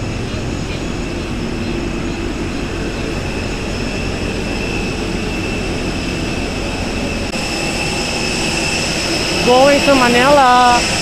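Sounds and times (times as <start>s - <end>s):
jet engine whine: 0.0s - 11.0s
jet engines rumbling: 0.0s - 11.0s.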